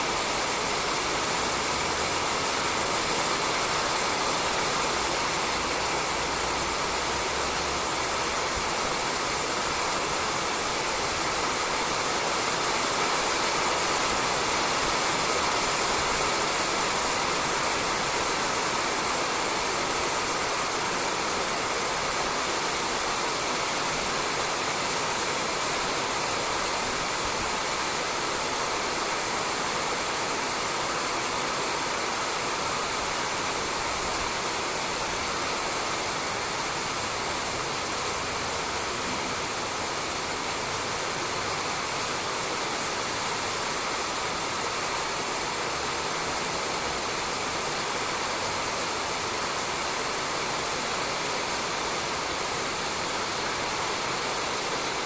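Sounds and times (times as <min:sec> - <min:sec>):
rain falling on a roof: 0:00.0 - 0:55.0.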